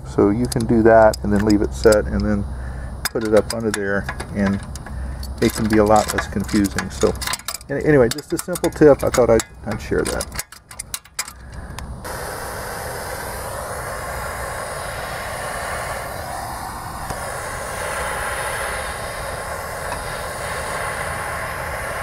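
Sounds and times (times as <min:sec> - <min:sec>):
propane torch hissing: 0:00.0 - 0:10.4, 0:11.4 - 0:22.0.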